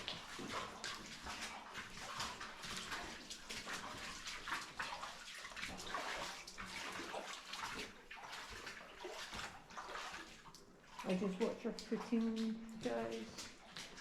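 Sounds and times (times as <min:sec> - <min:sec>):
footsteps splashing through water: 0:00.0 - 0:14.0.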